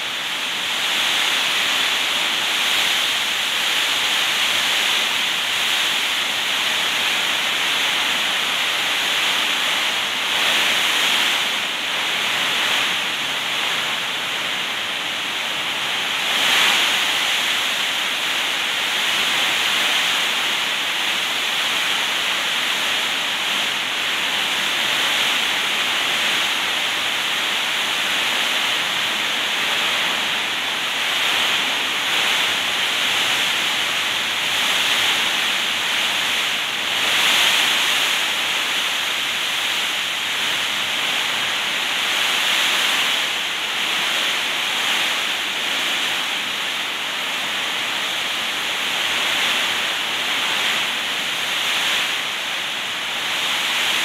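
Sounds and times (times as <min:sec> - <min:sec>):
heavy rain on metal roofs: 0:00.0 - 0:54.0.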